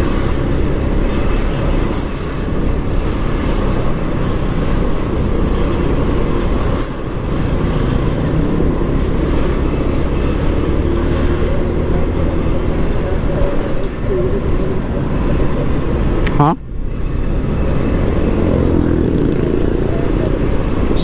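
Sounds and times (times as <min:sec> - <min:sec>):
dense traffic noise: 0:00.0 - 0:21.0
scooter engine rumble: 0:00.0 - 0:21.0.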